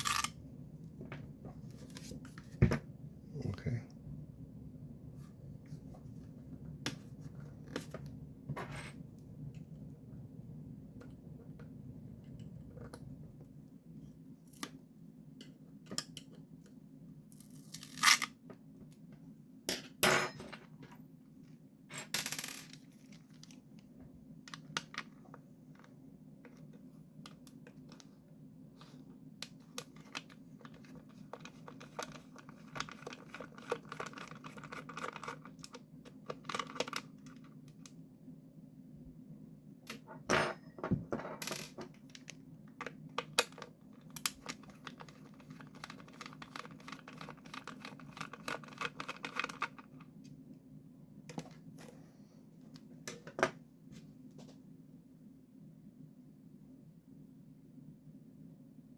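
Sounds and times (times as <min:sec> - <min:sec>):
faint low hum: 0:00.0 - 0:58.9.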